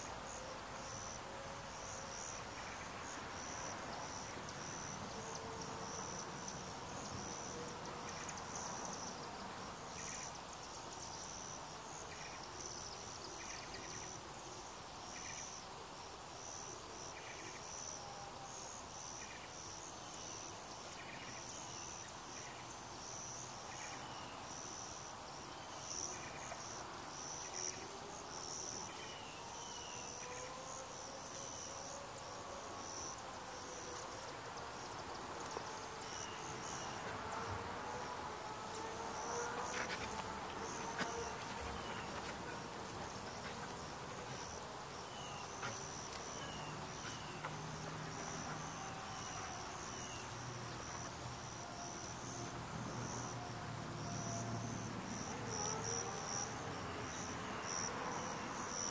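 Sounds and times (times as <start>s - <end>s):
insects chirping chorus: 0.0s - 58.9s.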